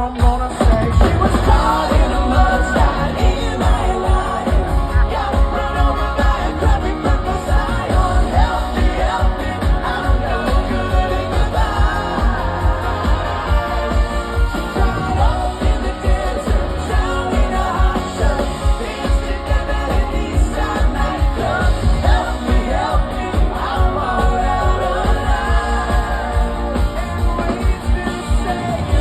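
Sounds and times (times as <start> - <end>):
person singing: 0.0 - 29.0
pop-rock band playing: 0.0 - 29.0
steady drum beat: 0.0 - 29.0.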